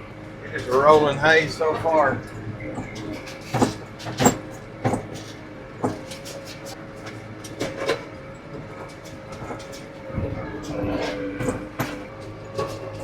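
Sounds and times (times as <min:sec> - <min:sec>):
tractor engine running: 0:00.0 - 0:13.0
hay rake clanking and knocking: 0:00.4 - 0:13.0.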